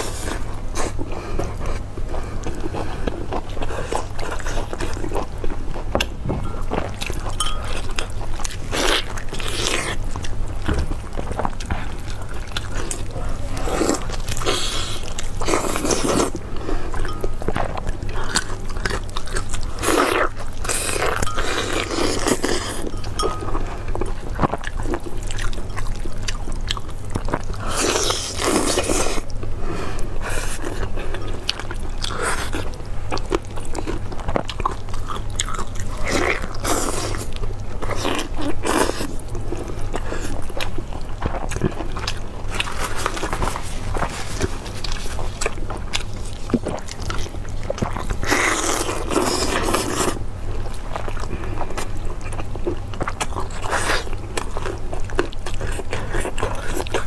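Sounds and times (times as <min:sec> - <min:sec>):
biting and chewing meat: 0:00.0 - 0:57.0
steady low hum: 0:00.0 - 0:57.0.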